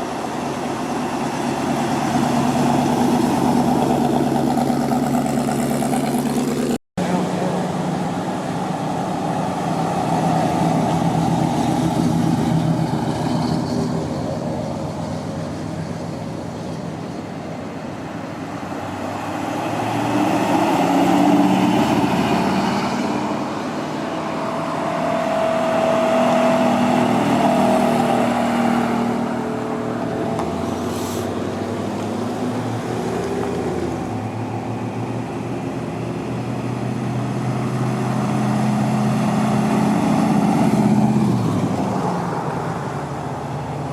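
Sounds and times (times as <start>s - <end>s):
car engines running: 0.0s - 43.9s.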